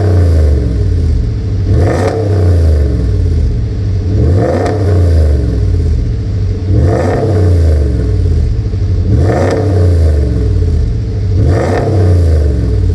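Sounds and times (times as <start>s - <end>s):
pickup engine idling and revving: 0.0s - 12.9s.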